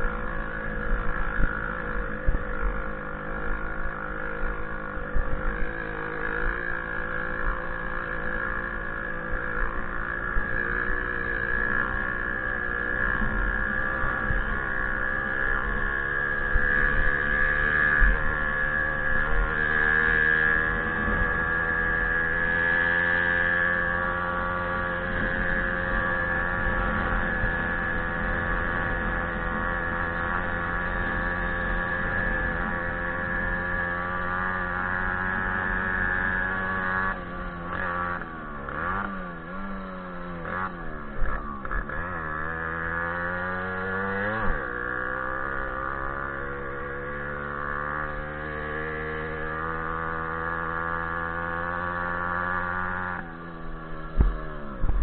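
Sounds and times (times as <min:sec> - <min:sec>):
moped two-stroke engine running: 0:00.0 - 0:55.0.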